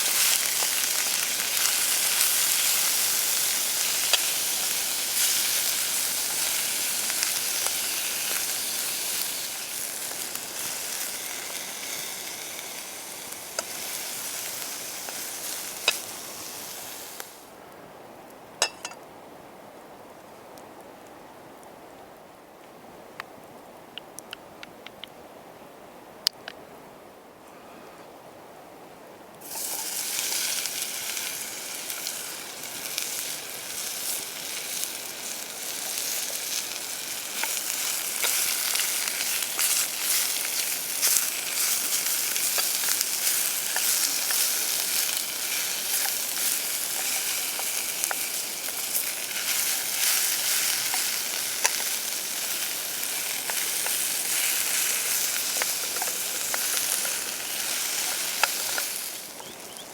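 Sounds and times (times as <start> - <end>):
food sizzling in hot oil: 0.0 - 17.5, 29.4 - 59.9.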